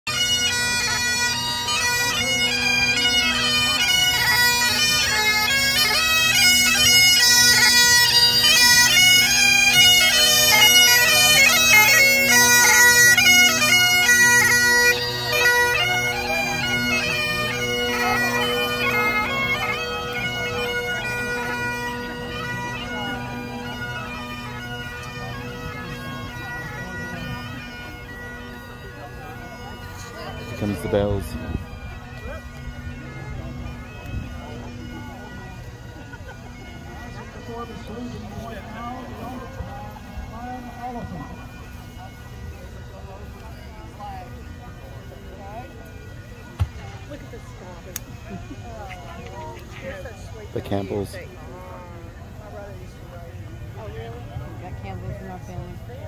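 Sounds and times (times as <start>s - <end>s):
bagpipes playing a march: 0.1s - 56.0s.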